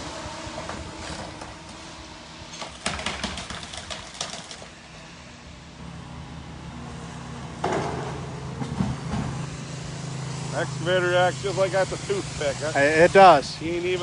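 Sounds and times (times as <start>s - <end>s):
excavator engine humming: 0.0s - 14.0s.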